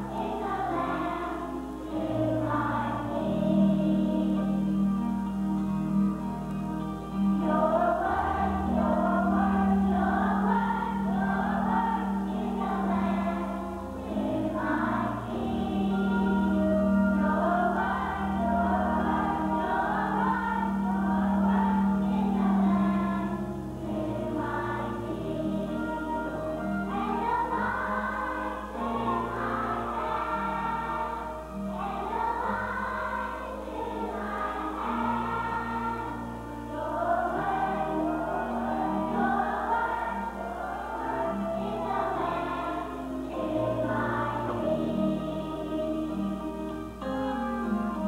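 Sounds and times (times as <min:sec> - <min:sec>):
children's choir singing: 0:00.0 - 0:48.0
low instrumental accompaniment: 0:00.0 - 0:48.0.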